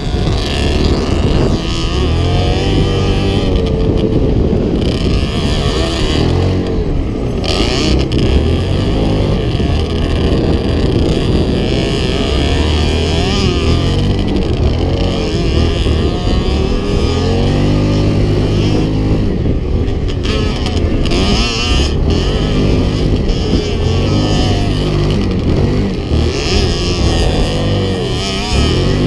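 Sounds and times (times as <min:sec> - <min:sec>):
off-road engines revving: 0:00.0 - 0:29.0.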